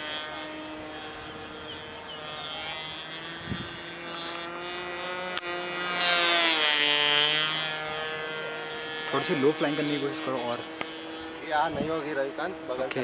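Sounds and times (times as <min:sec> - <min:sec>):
model plane engine flying overhead: 0:00.0 - 0:13.0.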